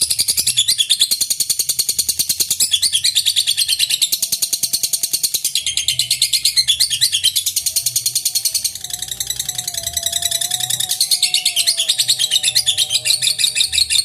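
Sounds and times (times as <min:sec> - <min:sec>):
lovebird chattering: 0:01.2 - 0:14.0.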